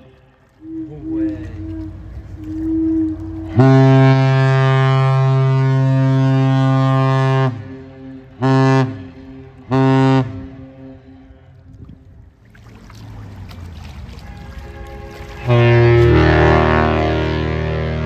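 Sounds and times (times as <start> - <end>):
faint steady horn-like tone: 0.0 - 11.6, 14.1 - 18.0
ship air horn blasts: 0.6 - 11.6, 14.0 - 18.0.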